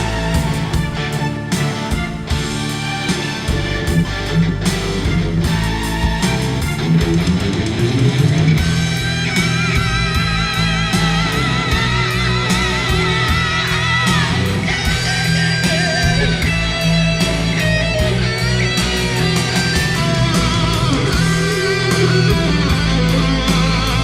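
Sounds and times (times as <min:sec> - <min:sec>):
lead guitar melody: 0:00.0 - 0:24.0
rock band playing: 0:00.0 - 0:24.0.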